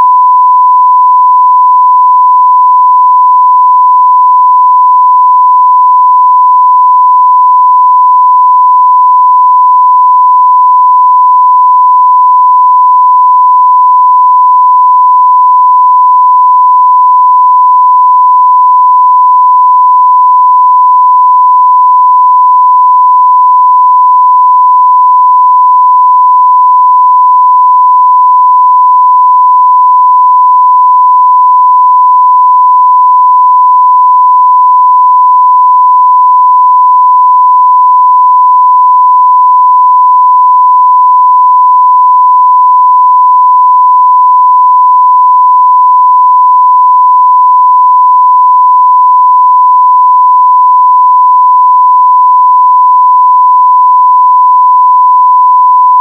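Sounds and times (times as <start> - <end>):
sine wave test tone: 0.0 - 56.0.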